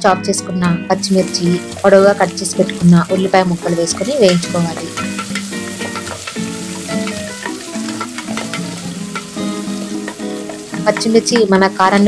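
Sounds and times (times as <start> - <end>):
soft background music: 0.0 - 12.0
onions sizzling in ghee: 0.9 - 12.0.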